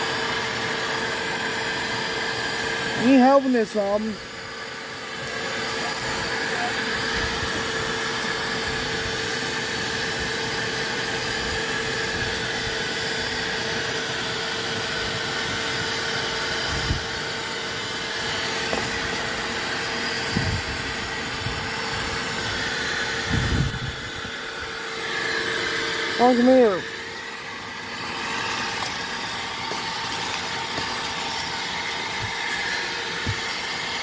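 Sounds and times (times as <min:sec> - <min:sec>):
shop vac running: 0:00.0 - 0:34.0.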